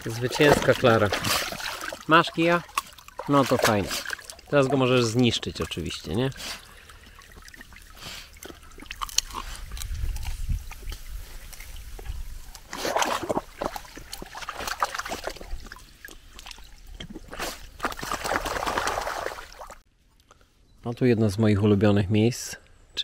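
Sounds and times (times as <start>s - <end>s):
water splashing as dog wades: 0.0s - 19.8s.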